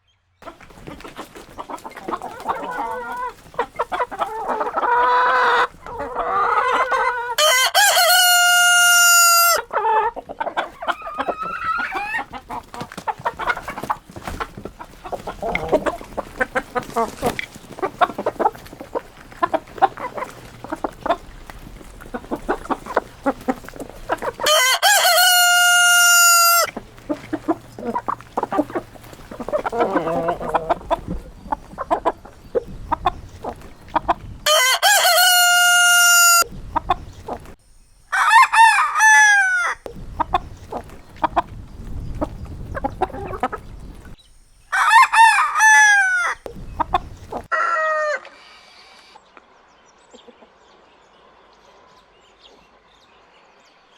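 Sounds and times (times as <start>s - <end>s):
roosters crowing: 0.4s - 37.5s, 38.1s - 41.4s, 42.7s - 49.2s
chickens clucking: 0.4s - 52.8s.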